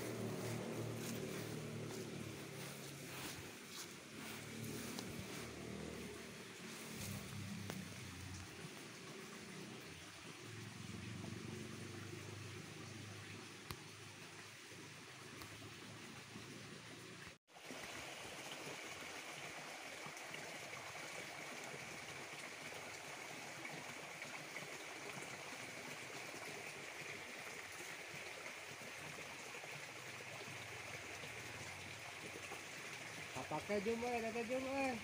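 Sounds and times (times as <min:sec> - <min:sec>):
stream flowing and trickling: 0:00.0 - 0:35.0.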